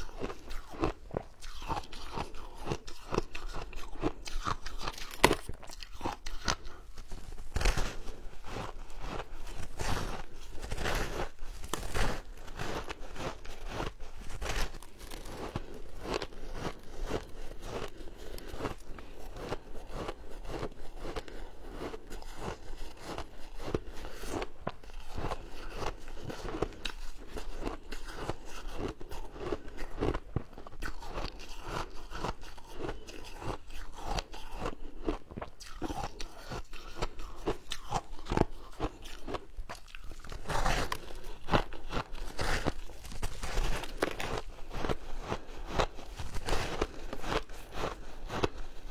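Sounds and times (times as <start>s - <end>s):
crunching shaved ice: 7.4s - 48.8s.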